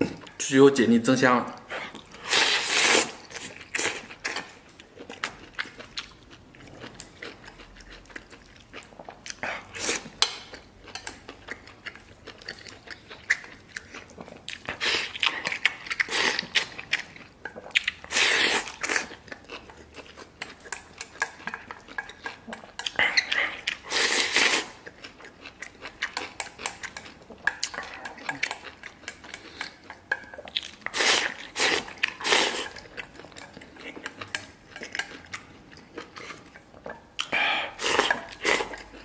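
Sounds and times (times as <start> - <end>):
person chewing and slurping: 1.6 - 39.0.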